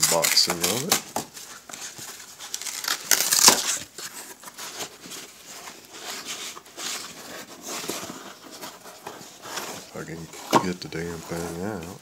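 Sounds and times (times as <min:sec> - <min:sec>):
cardboard scraping and crinkling: 0:00.0 - 0:12.0.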